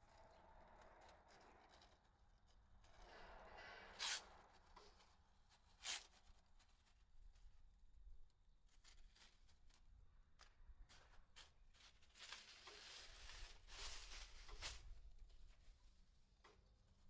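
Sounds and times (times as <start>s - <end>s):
faint rustle of tape: 0.0s - 17.0s.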